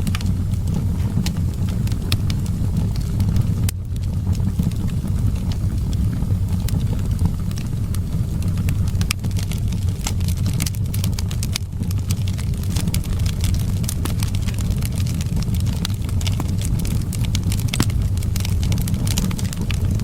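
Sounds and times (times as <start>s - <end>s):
low wind rumble: 0.0s - 20.0s
wood fire crackling and popping: 0.0s - 20.0s.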